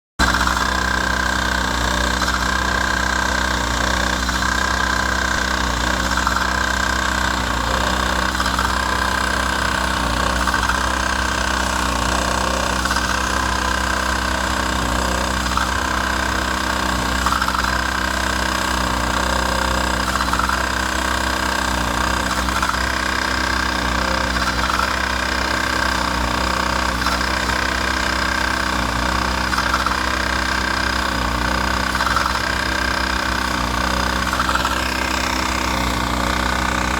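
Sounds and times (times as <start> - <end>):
engine running with whine: 0.2 - 36.9.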